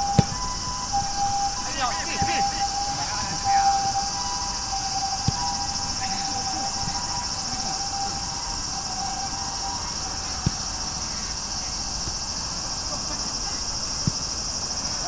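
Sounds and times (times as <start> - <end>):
high-pitched insect chorus: 0.0 - 15.0
thin steady tone: 0.0 - 15.0.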